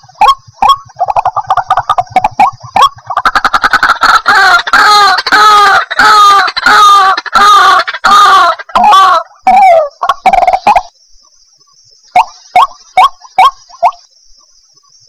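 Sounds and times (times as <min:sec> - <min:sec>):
bird loud croaking calls: 0:00.0 - 0:14.9.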